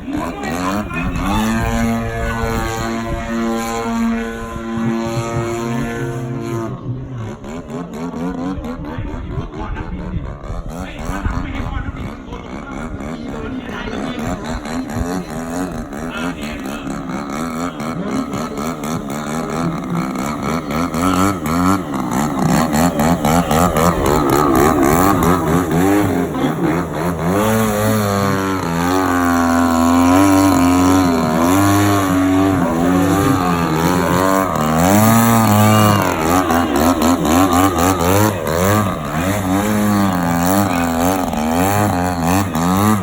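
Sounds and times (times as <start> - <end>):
model plane engine revving: 0.0 - 43.0.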